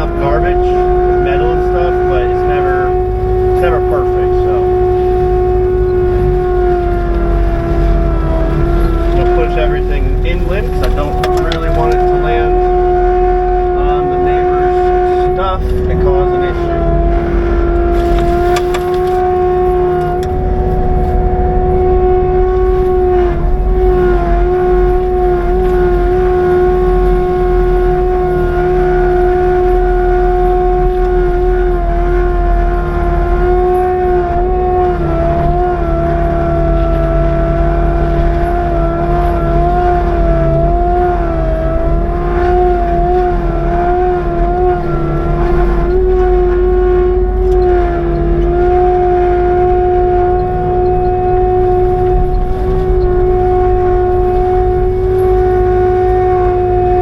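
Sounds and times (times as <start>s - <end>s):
engine low rumble: 0.0s - 57.0s
mulcher whine: 0.0s - 57.0s.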